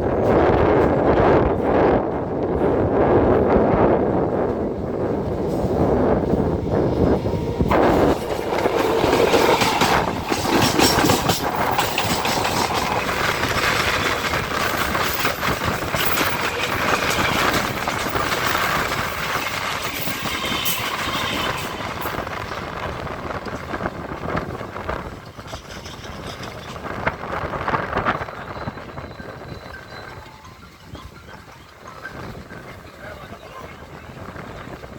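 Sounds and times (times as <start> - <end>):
train rail noise rushing: 0.0 - 34.9
wheels clattering over rail joints: 0.0 - 34.9.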